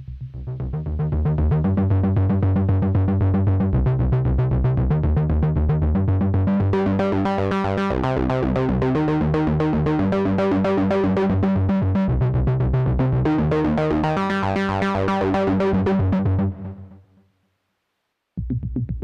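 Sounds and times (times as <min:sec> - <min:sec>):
synthesizer bass and chords: 0:00.0 - 0:17.0
synthesizer plucked notes pattern: 0:00.3 - 0:17.0.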